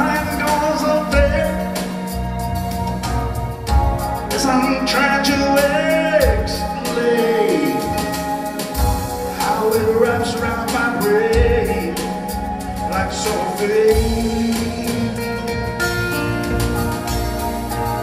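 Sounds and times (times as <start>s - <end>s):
live blues band playing: 0.0s - 18.0s
sliding lead melody: 0.0s - 18.0s.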